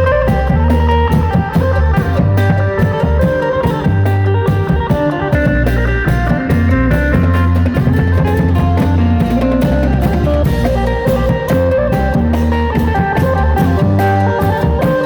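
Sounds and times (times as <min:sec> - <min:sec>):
bass: 0:00.0 - 0:15.0
drum kit beat: 0:00.0 - 0:15.0.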